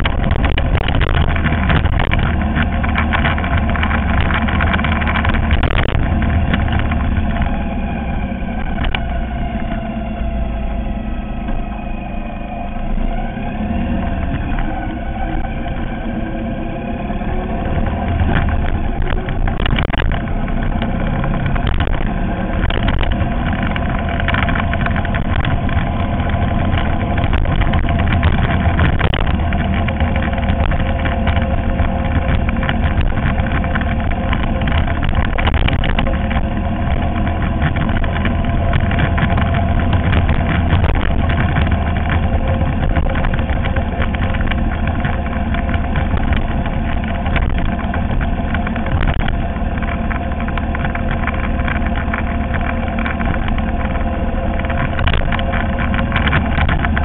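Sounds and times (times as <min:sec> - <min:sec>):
motorcycle engine running: 0:00.0 - 0:57.0
road noise: 0:00.0 - 0:57.0
wind noise: 0:00.0 - 0:57.0.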